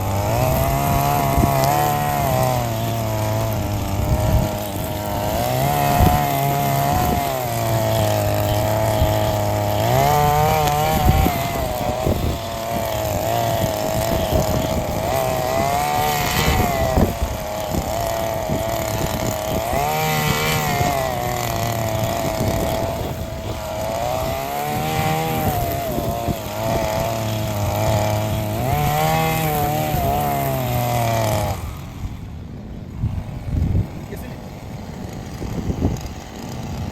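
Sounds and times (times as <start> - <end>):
mower engine running: 0.0 - 36.9.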